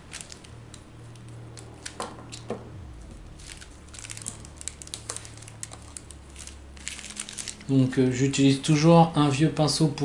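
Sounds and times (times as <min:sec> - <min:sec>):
low hum: 0:00.0 - 0:09.2.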